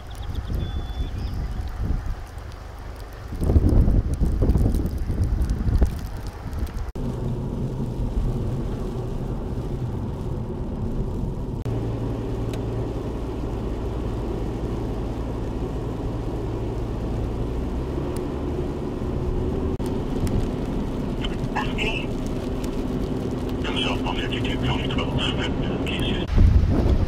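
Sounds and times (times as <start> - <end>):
vehicle engine hum: 0.0 - 27.0.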